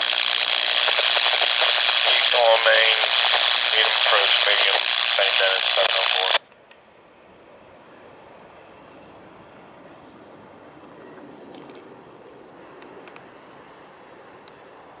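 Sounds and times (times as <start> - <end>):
low outdoor background noise: 0.0 - 15.0.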